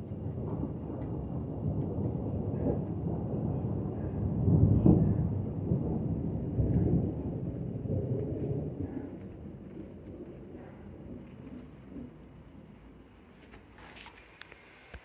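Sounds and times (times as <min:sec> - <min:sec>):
thunder rumbling: 0:00.0 - 0:14.1.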